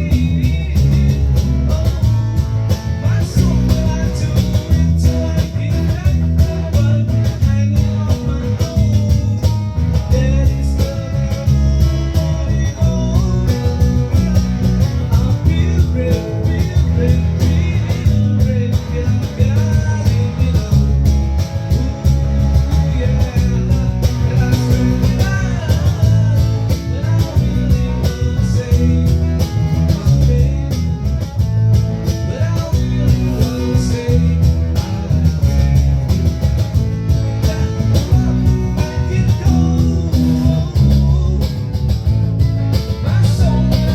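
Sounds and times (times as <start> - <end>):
blues-rock band playing: 0.0 - 43.9
drum beat: 0.0 - 43.9
electric guitar lines: 0.0 - 43.9
heavy bass: 0.0 - 43.9.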